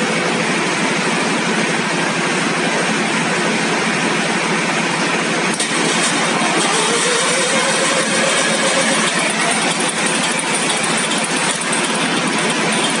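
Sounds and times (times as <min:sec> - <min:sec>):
stationary engine running: 0:00.0 - 0:13.0.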